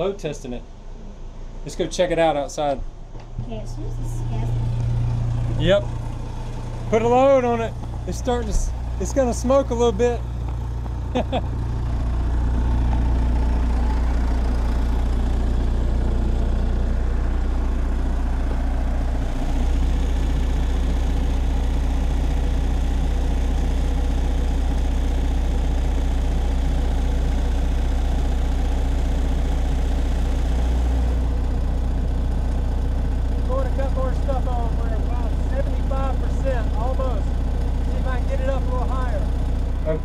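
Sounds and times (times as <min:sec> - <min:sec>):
diesel generator running: 0:00.0 - 0:40.0.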